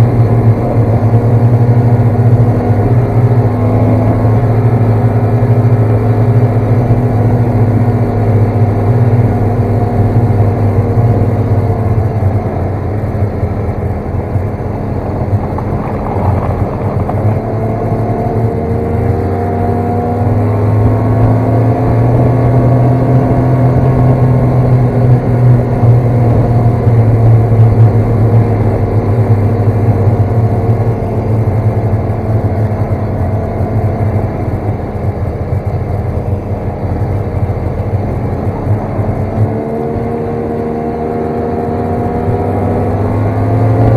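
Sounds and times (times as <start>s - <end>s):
snowmobile engine running: 0.0s - 43.9s.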